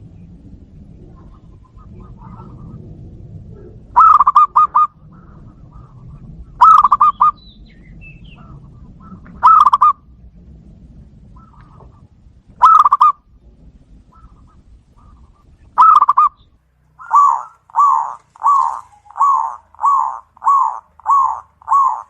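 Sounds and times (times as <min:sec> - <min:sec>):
dove cooing: 0:00.0 - 0:10.1, 0:11.2 - 0:22.0.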